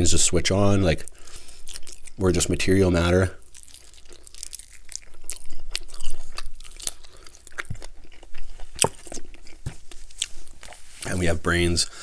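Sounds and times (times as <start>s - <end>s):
biting and chewing crispy chicken: 1.0s - 10.8s.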